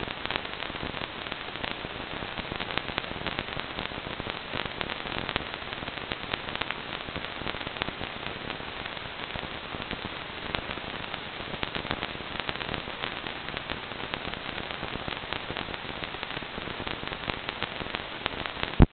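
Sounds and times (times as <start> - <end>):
static hiss with crackles: 0.0 - 18.9.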